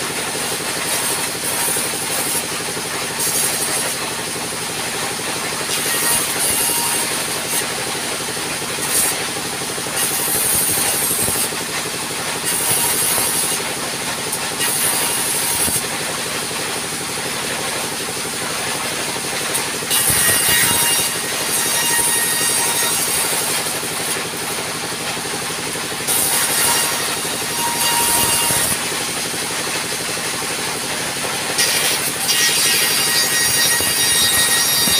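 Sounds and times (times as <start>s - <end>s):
band saw cutting boards: 0.0s - 34.9s.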